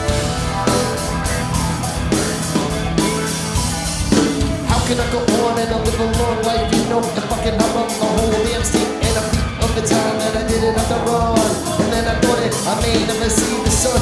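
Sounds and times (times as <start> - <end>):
live band playing electronica-rock: 0.0 - 14.0
steady drum beat: 0.0 - 14.0.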